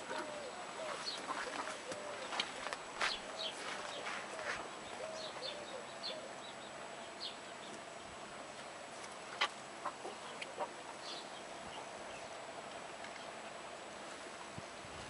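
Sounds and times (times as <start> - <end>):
birds chirping: 0.0 - 14.5.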